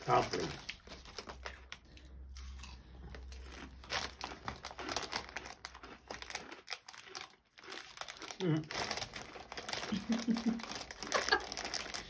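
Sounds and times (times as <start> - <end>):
plastic packet crinkling: 0.0 - 1.8, 3.5 - 12.0.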